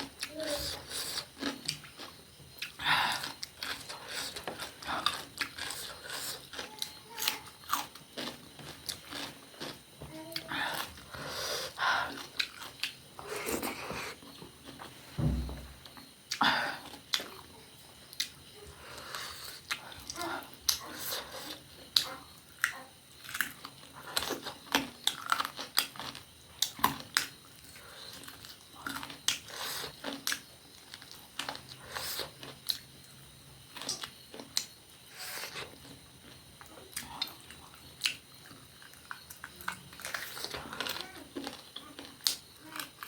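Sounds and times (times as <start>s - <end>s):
person chewing food: 0.0s - 14.9s, 18.1s - 32.9s, 33.7s - 43.0s.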